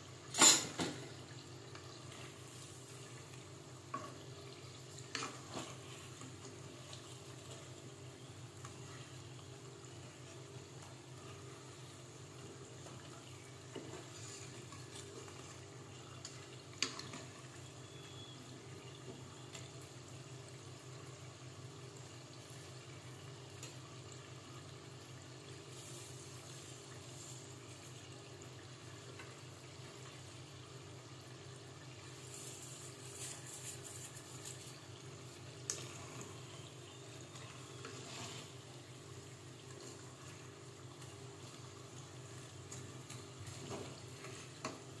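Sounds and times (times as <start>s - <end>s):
food deep-frying in oil: 0.0s - 45.0s.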